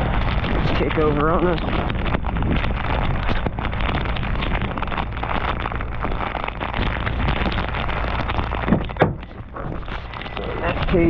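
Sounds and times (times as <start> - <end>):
rain crackle: 0.0 - 11.0
wind buffeting microphone: 0.0 - 11.0.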